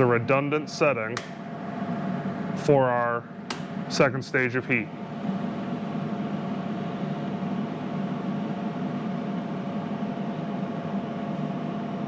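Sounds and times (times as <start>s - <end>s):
heater fan blowing: 0.0s - 12.0s
thin steady whine: 0.0s - 12.0s.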